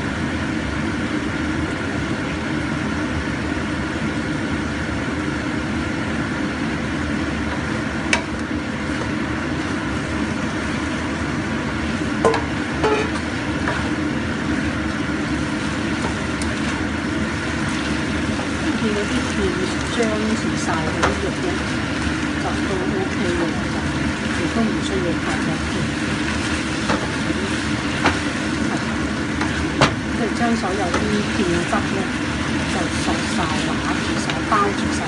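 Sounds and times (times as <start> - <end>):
food sizzling in a wok: 0.0 - 35.0.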